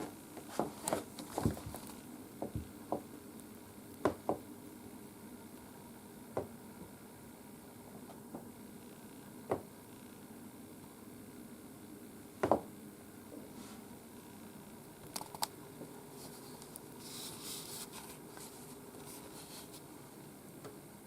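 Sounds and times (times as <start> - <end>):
low room noise: 0.0 - 21.0.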